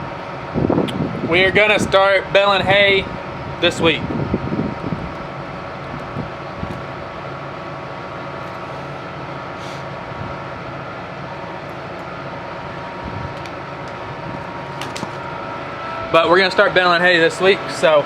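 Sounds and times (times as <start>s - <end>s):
machine humming with whine: 0.0s - 18.0s.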